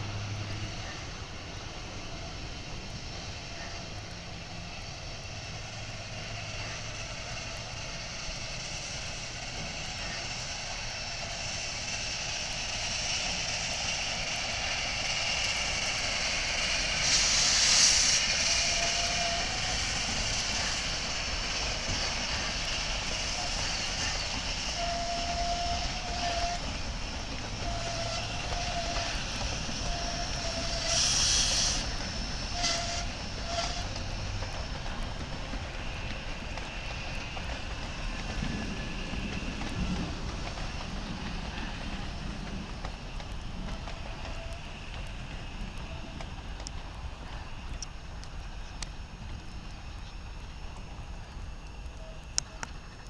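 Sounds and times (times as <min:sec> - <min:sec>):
hiss: 0:00.0 - 0:53.0.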